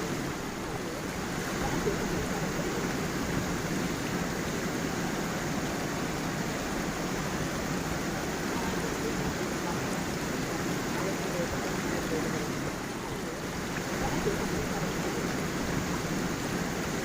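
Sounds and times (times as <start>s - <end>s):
waterfall and stream flowing: 0.0s - 17.0s.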